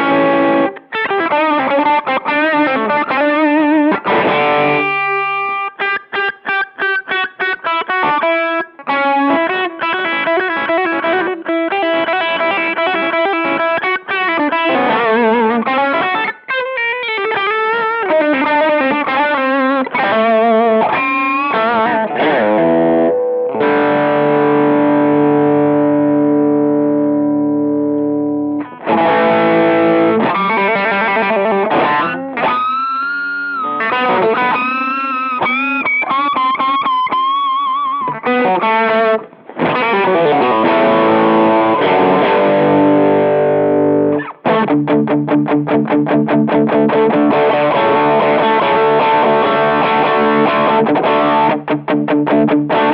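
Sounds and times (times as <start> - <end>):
distorted electric guitar: 0.0 - 52.9.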